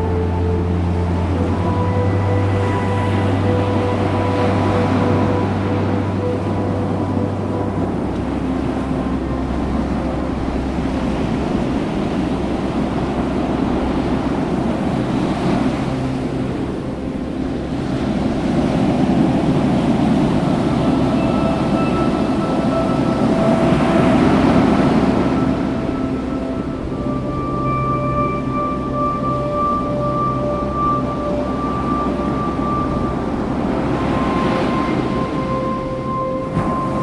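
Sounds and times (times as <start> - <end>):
faint held musical notes: 0.0 - 37.0
ocean surf waves: 0.0 - 37.0
wind noise on microphone: 0.0 - 37.0.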